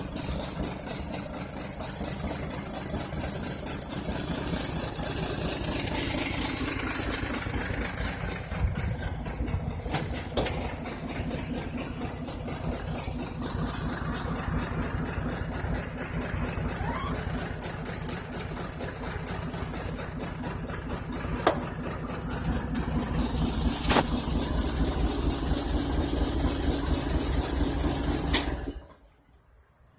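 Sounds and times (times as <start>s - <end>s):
misfiring engine idling: 0.0s - 29.2s.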